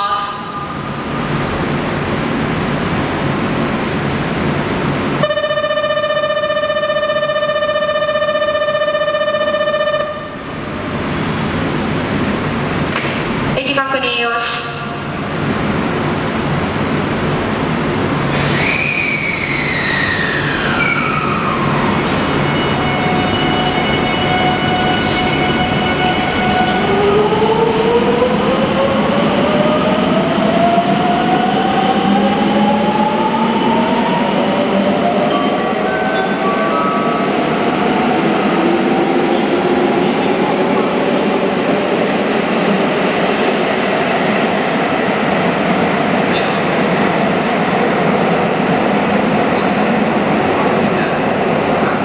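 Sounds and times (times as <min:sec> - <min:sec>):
electric train rumble: 0:00.0 - 0:13.9, 0:14.5 - 0:52.0.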